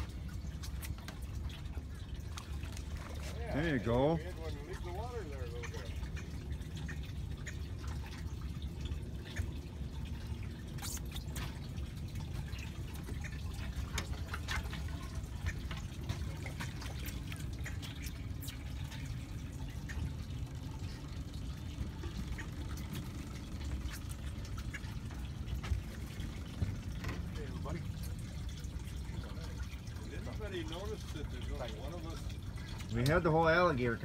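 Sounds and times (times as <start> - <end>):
water dripping and lapping: 0.0 - 34.0.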